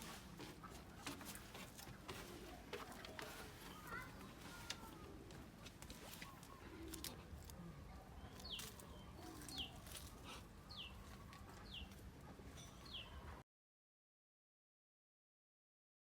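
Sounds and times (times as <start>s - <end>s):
faint outdoor ambience: 0.0s - 13.4s.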